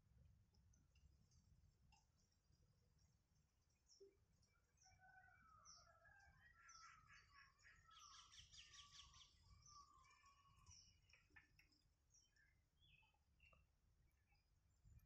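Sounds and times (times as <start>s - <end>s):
small birds chirping and trilling: 0.5s - 15.0s.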